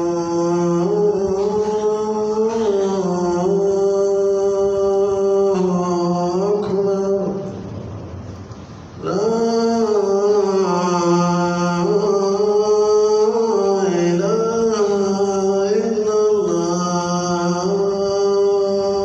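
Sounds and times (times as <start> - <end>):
man chanting call to prayer: 0.0 - 7.6, 9.0 - 19.0.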